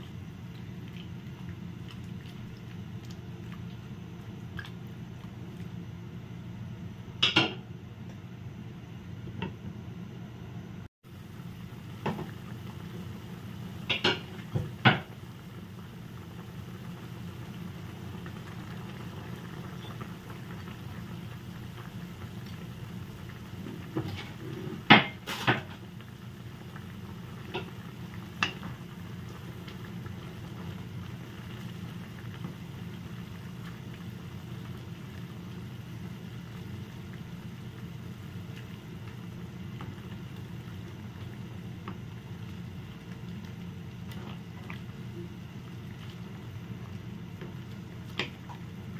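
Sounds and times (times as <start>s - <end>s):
soup bubbling in a pot: 0.0s - 7.9s, 11.0s - 48.9s.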